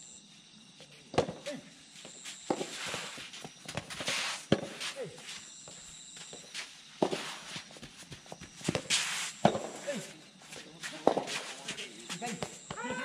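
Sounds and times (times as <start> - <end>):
shoes scuffing on court: 0.8 - 13.0.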